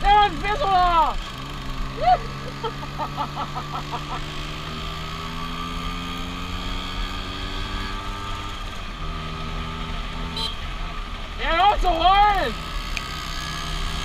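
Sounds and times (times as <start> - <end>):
scooter engine running: 0.0 - 14.0
wind and road noise: 0.0 - 14.0.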